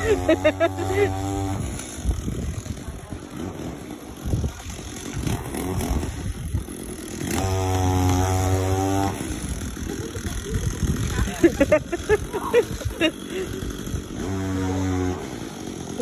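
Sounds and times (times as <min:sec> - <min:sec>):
chainsaw running and revving: 0:00.0 - 0:16.0.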